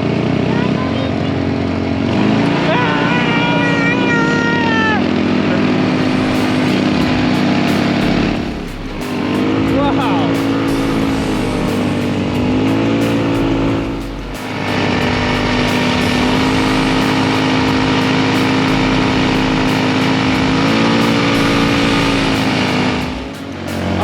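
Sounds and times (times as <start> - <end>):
tracked vehicle engine running: 0.0 - 24.0.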